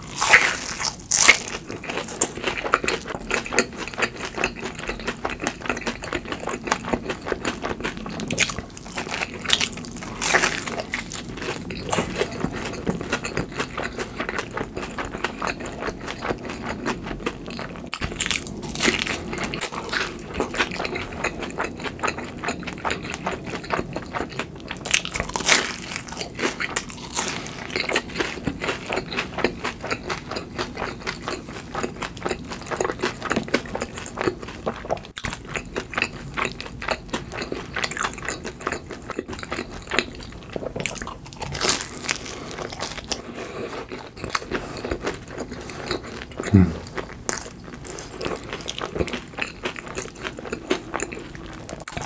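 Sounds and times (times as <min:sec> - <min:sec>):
chewing and crunching food: 0:00.0 - 0:52.0.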